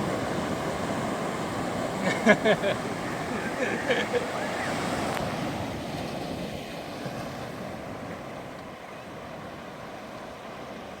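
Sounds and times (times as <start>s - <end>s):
waves washing: 0.0s - 11.0s.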